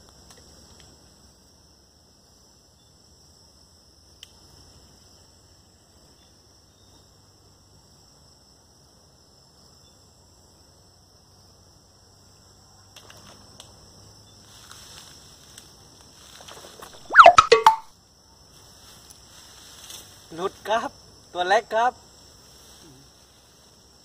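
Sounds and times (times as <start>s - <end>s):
high insect drone: 0.0s - 24.0s
rustle: 0.0s - 24.0s.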